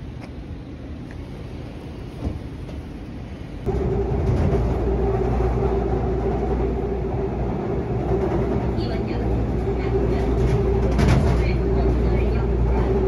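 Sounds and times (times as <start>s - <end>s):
low street rumble: 0.0s - 13.0s
subway train rumble: 0.0s - 13.0s.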